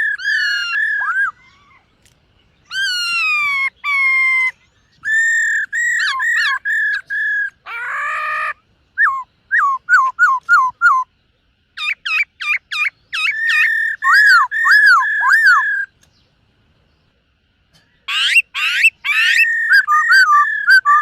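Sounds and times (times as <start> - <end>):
bird whistled song: 0.0 - 16.4, 17.0 - 21.0.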